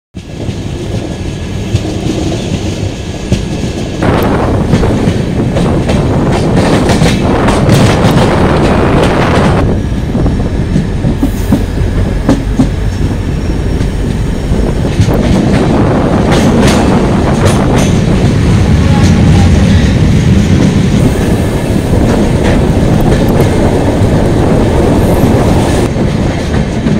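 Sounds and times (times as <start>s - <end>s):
train wheels clattering over rails: 0.2s - 9.8s, 10.6s - 26.9s.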